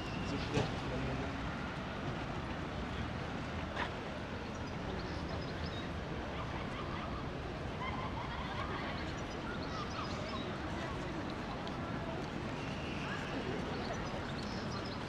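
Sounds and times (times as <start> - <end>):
distant traffic hum: 0.0 - 15.0
faint voices of passers-by: 0.0 - 15.0.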